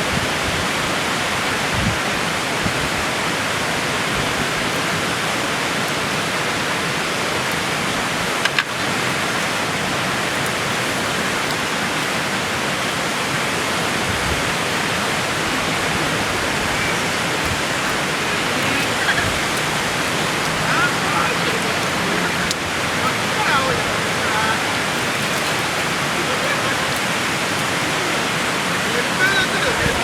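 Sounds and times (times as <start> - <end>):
river water rushing over rocks: 0.0 - 30.0.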